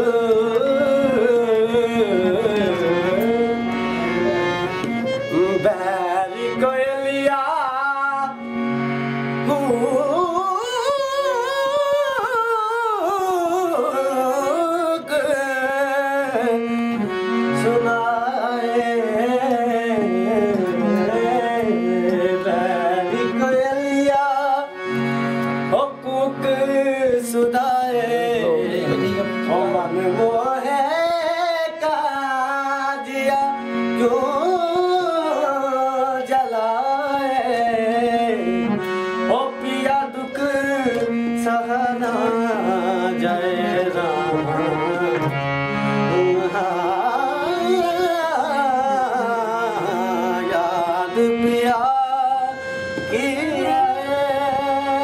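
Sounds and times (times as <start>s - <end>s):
man singing ornamented phrases: 0.0s - 4.6s, 5.2s - 8.5s, 9.4s - 24.8s, 25.7s - 45.4s, 46.1s - 55.0s.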